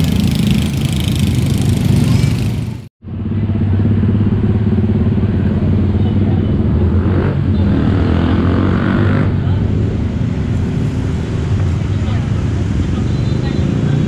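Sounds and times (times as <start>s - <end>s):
cars running: 0.0s - 14.0s
motorcycle engines: 0.0s - 14.0s.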